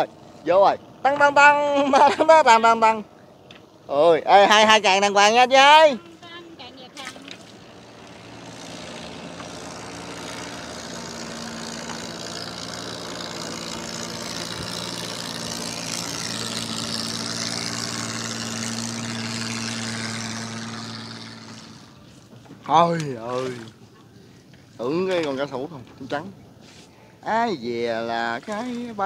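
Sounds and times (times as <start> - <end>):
small boat engine running: 0.0 - 29.0.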